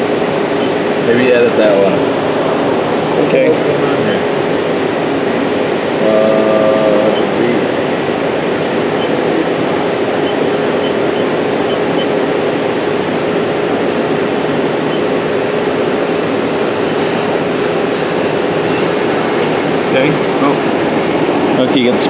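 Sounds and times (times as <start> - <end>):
cnc lathe running: 0.0 - 22.0.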